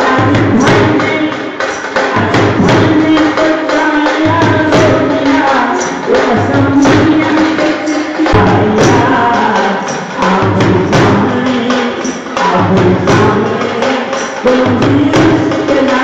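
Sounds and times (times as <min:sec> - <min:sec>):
drum beating steady rhythm: 0:00.0 - 0:16.0
jingling hand percussion: 0:00.0 - 0:16.0
man singing through microphone: 0:00.0 - 0:16.0.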